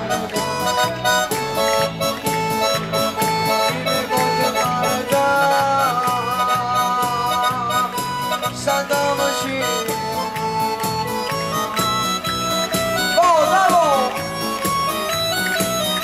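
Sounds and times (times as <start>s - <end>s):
reedy folk melody: 0.0s - 16.0s.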